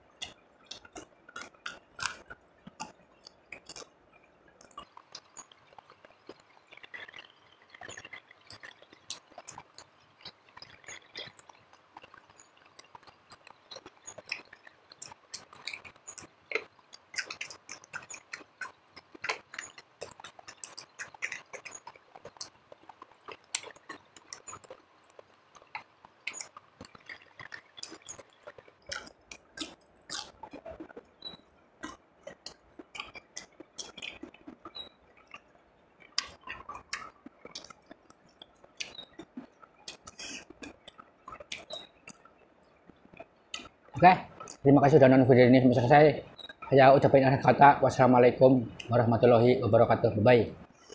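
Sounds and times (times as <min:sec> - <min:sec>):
chewing crispy food: 0:00.0 - 0:50.9.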